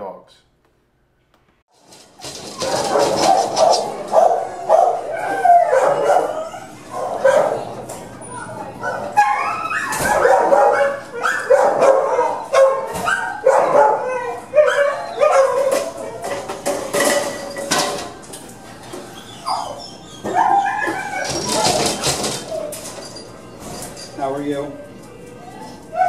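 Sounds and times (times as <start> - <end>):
dogs barking and yelping: 1.9 - 18.0, 18.6 - 24.2, 25.5 - 26.0.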